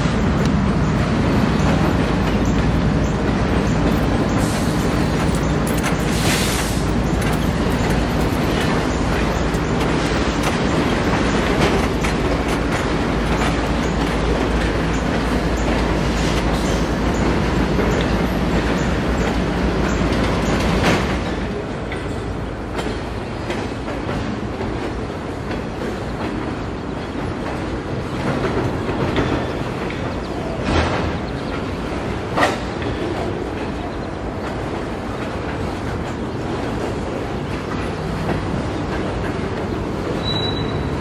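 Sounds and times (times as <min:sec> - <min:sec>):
freight train rumbling on rails: 0:00.0 - 0:41.0.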